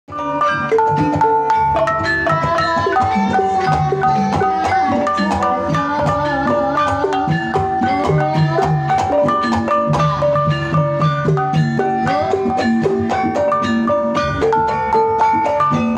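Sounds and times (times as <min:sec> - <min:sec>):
gamelan playing: 0:00.1 - 0:15.9
hand drums: 0:00.1 - 0:15.9.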